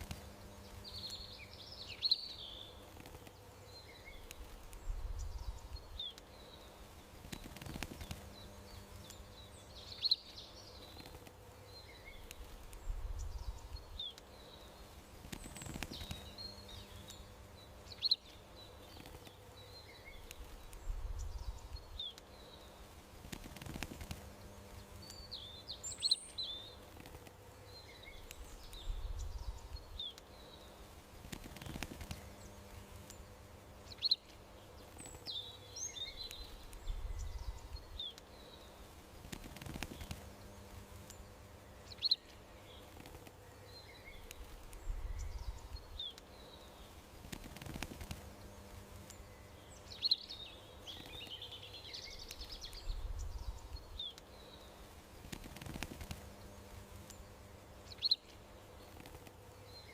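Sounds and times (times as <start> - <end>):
faint background hiss and hum: 0.0 - 59.9
songbirds chirping: 0.0 - 59.9.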